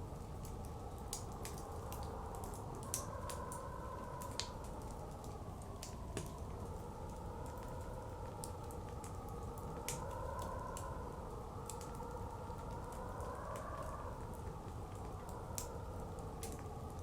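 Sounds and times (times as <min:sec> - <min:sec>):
wood fire crackling and popping: 0:00.2 - 0:17.0.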